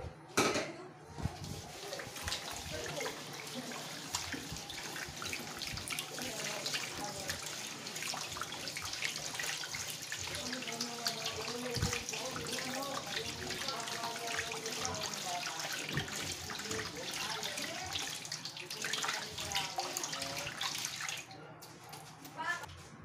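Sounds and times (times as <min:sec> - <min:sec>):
hand mixing water into flour: 0:01.2 - 0:22.3.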